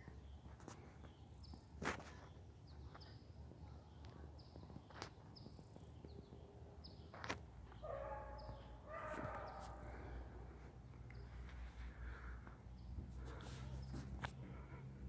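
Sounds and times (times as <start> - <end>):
faint outdoor rumble: 0.0 - 15.0.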